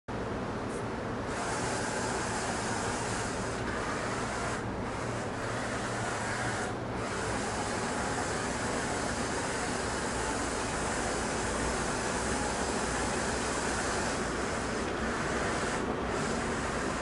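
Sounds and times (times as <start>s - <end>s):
robot vacuum whirring: 1.4s - 17.0s.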